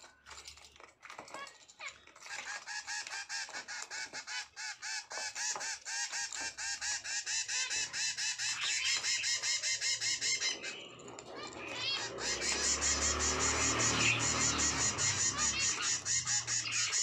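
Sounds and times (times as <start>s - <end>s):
finches beeping calls: 2.4s - 17.0s.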